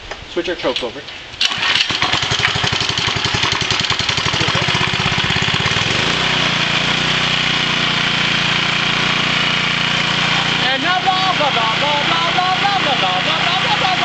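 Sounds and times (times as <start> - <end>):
small generator engine running: 1.4 - 14.0.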